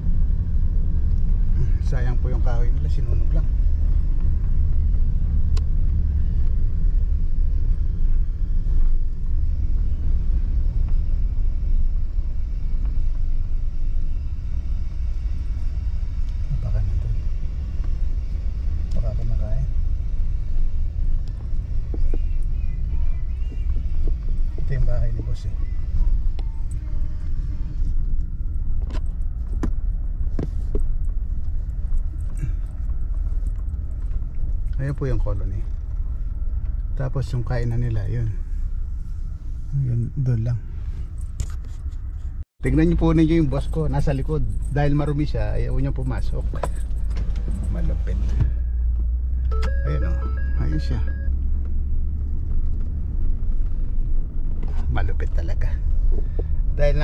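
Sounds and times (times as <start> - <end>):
truck driving on unpaved road: 0.0 - 57.0.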